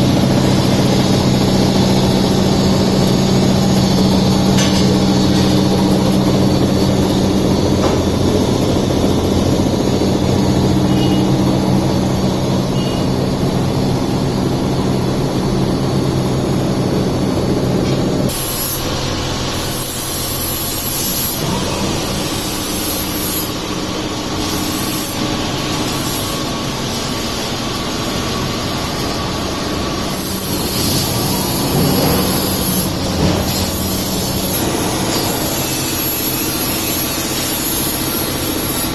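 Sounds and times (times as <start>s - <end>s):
laser cutter machine hum: 0.0s - 38.9s.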